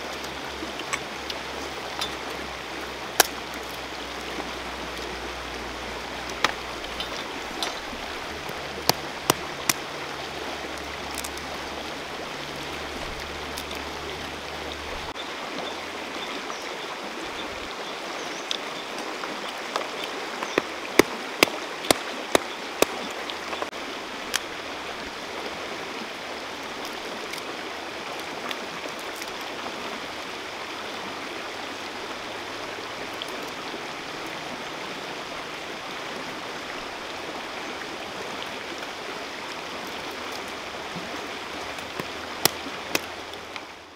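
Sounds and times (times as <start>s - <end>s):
river running over stones: 0.0s - 43.9s.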